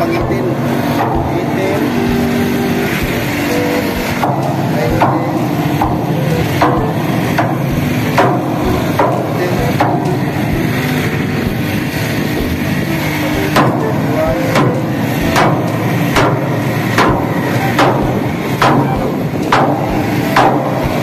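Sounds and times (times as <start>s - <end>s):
hammer blows on steel: 0.0s - 21.0s
machinery drone: 0.0s - 21.0s.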